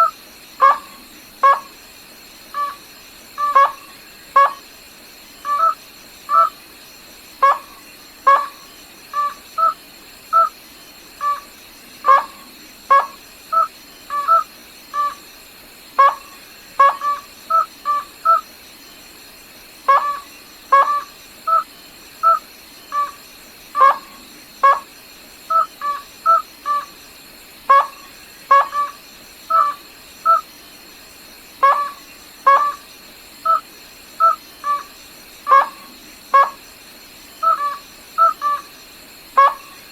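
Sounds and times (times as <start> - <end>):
faint high whine: 0.0 - 39.9.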